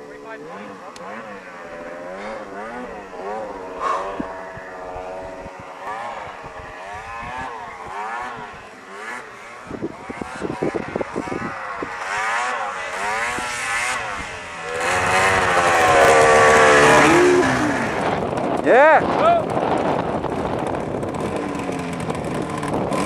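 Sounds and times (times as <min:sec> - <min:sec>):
loud engine revving close by: 0:00.0 - 0:23.0
snowmobile engines revving: 0:00.0 - 0:23.0.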